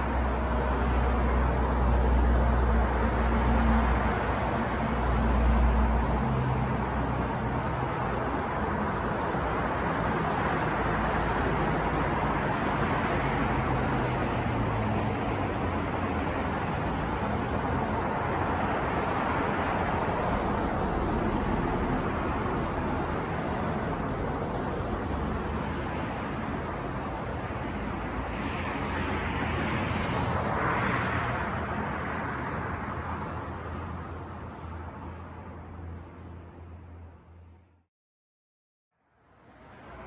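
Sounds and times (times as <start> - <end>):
cars passing: 0.0 - 37.6, 39.1 - 40.0
low traffic hum: 0.0 - 37.8, 39.0 - 40.0.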